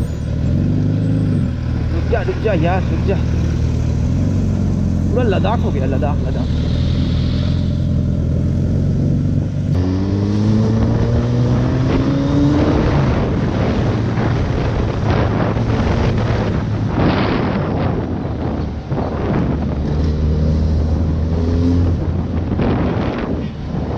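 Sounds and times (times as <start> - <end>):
motorcycle engine accelerating: 0.0 - 23.4
wind noise on microphone: 0.0 - 23.9.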